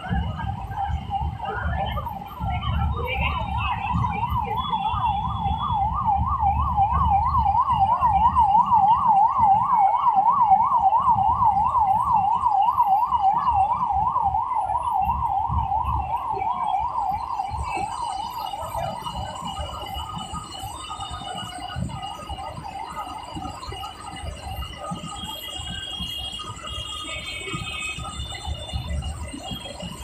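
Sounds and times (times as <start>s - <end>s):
electronic siren warbling: 0.0s - 30.0s.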